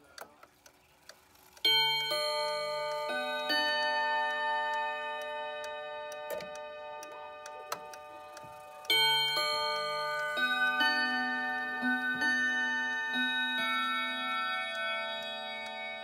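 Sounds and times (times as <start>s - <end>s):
clock ticking: 0.0s - 16.0s
wall clock chime melody: 1.6s - 16.0s.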